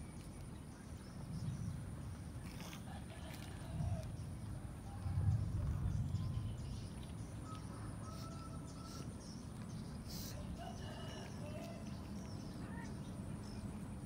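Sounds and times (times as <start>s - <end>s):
distant bird calls: 0.0s - 14.0s
steady low rumble: 0.0s - 14.0s.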